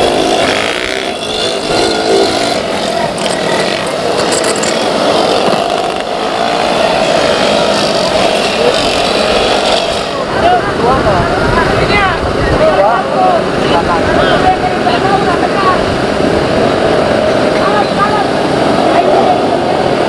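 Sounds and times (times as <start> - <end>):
scooter engines revving: 0.0 - 20.0.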